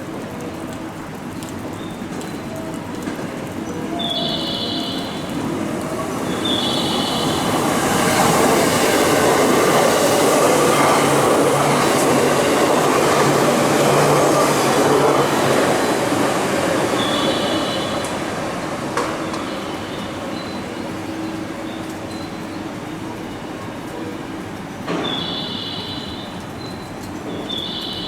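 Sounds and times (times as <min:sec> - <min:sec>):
electric train passing on rails: 0:00.1 - 0:28.0.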